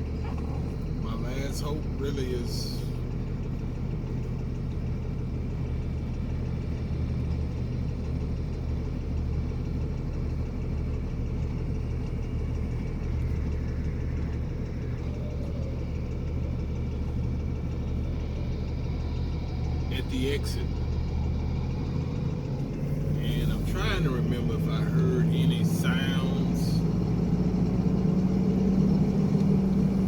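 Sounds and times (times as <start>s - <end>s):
road rumble: 0.0s - 30.0s
truck engine drone: 0.0s - 30.0s.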